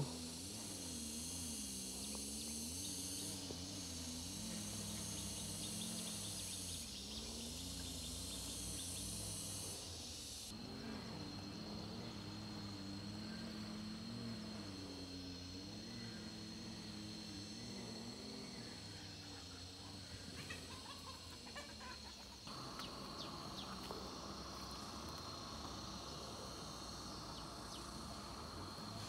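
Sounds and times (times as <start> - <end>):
insects calling: 0.0 - 29.0
low wavering hum: 0.0 - 29.0.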